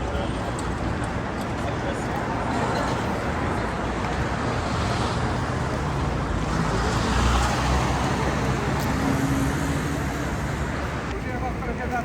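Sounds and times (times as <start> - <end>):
passing vehicles rumbling: 0.1 - 11.8.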